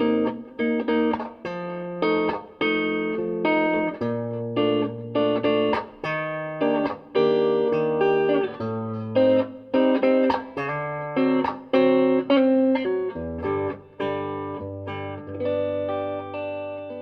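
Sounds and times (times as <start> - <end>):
plucked guitar chords and notes: 0.0 - 17.0.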